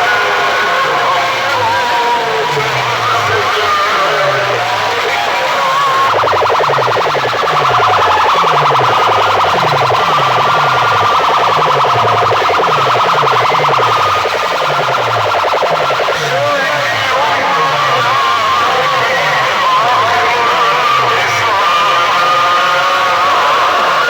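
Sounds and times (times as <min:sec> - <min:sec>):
pulsing electronic alarm: 0:00.0 - 0:24.0.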